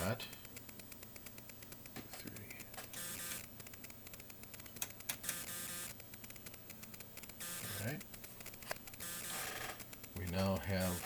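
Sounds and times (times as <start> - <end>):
faint fast ticking: 0.0 - 11.0
sharp clicks: 0.1 - 11.0.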